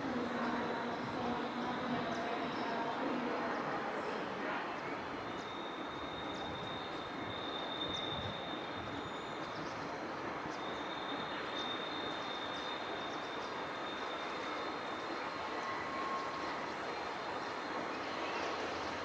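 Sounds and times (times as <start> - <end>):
rail yard and city background noise: 0.0 - 19.0.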